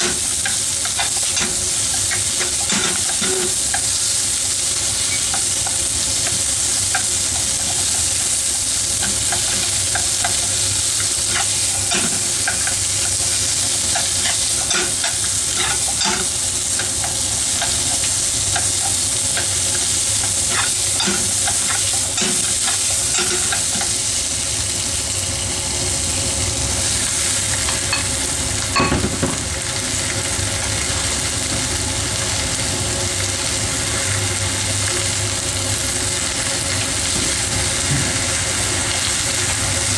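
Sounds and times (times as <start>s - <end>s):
onions sizzling in a frying pan: 0.0s - 39.9s.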